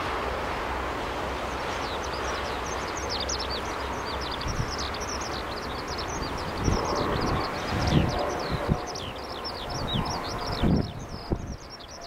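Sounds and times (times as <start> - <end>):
jet aircraft roar overhead: 0.0 - 12.0
small birds chirping: 1.6 - 12.0.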